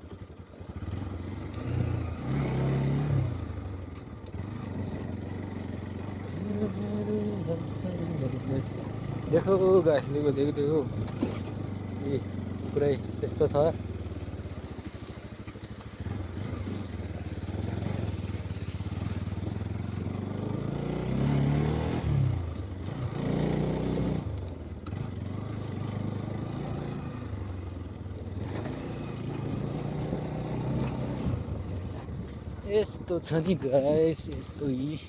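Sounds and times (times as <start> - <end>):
vehicle engine revving: 0.8 - 32.3.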